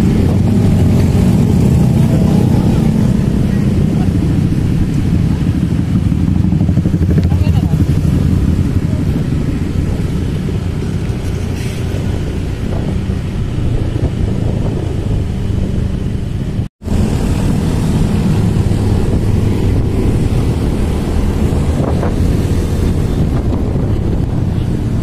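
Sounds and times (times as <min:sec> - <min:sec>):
motorcycle engine and road rumble: 0:00.0 - 0:25.0
wind buffeting microphone: 0:00.0 - 0:25.0.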